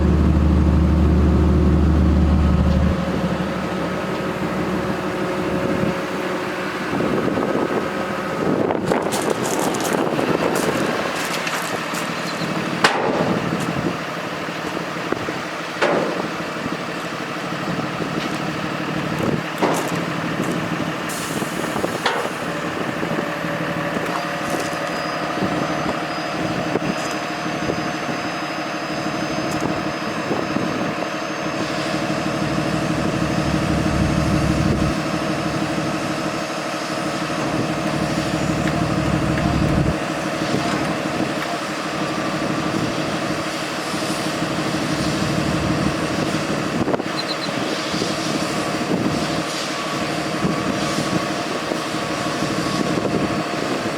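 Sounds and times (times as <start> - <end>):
diesel truck engine running: 0.0 - 53.9
steady whine: 0.0 - 53.9.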